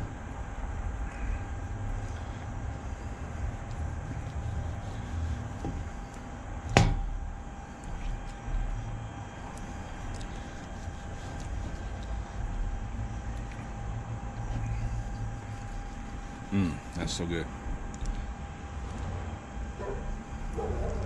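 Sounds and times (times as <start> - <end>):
low rumble with faint hum: 0.0 - 21.0.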